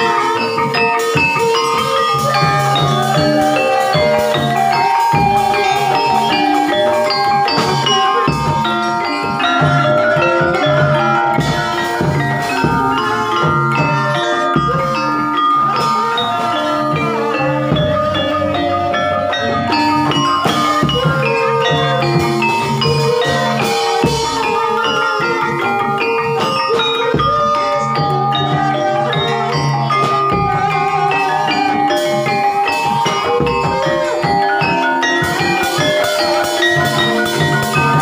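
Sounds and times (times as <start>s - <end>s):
drum strokes: 0.0s - 38.0s
mallet-struck pitched instruments: 0.0s - 38.0s.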